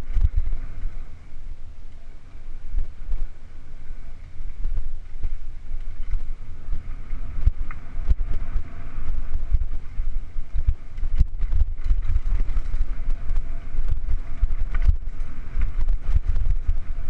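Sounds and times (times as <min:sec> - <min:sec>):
bike rattling over roots: 0:00.0 - 0:17.0
wind buffeting microphone: 0:00.0 - 0:17.0.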